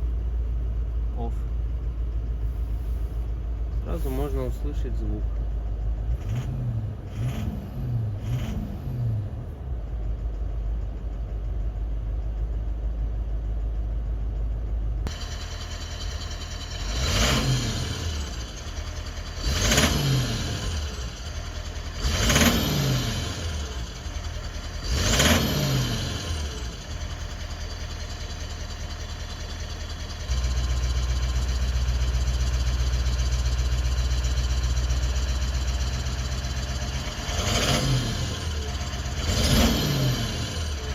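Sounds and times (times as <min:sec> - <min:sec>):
diesel engine idling and revving: 0:00.0 - 0:40.9.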